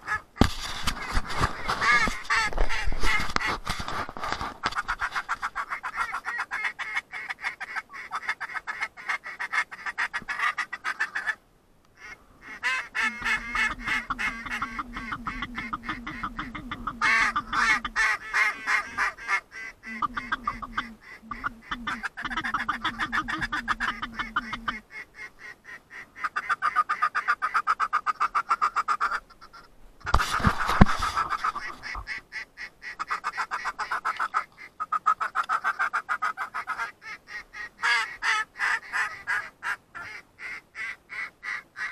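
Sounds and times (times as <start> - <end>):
ducks quacking: 0.0 - 3.7, 4.6 - 11.4, 12.0 - 41.9.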